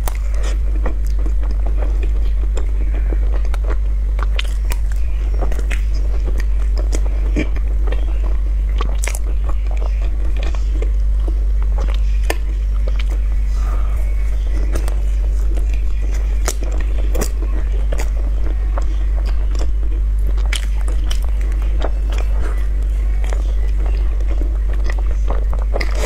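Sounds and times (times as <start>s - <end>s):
person chewing wet smacks: 0.0s - 26.0s
steady low hum: 0.0s - 26.0s.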